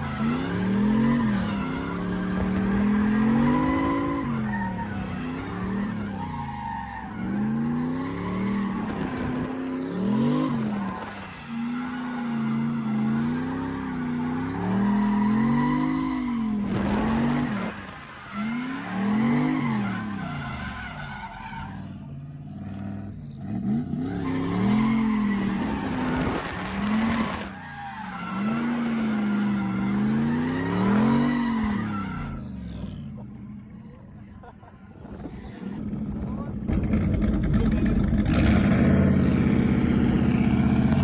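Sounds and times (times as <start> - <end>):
car engine revving: 0.0 - 34.3, 35.0 - 41.0
tyre squeal and skid: 0.0 - 41.0.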